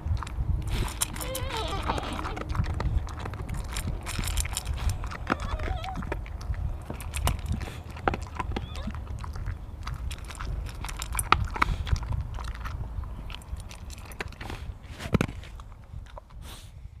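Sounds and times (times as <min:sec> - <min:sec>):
dog chewing food: 0:00.0 - 0:16.5.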